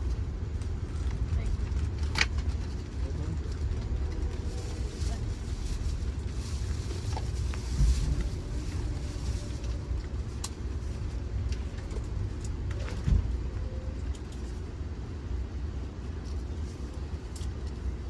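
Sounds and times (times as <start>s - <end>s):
train car rumbling over track: 0.0s - 18.0s.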